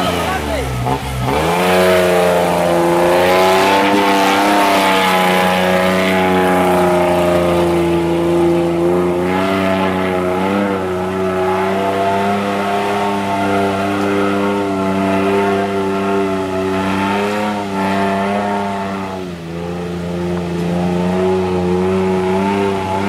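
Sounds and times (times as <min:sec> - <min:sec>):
engine revving high under load: 0:00.0 - 0:23.0.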